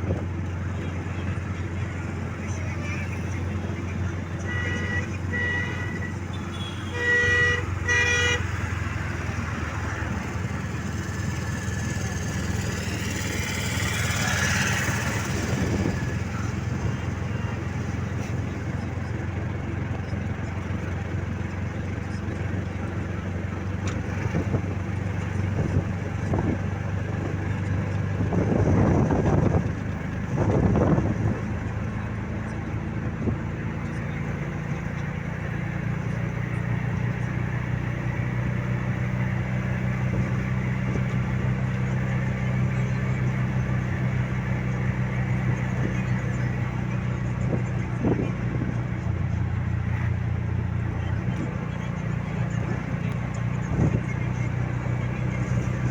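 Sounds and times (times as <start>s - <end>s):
road noise: 0.0s - 55.9s
vehicle engine drone: 0.0s - 55.9s.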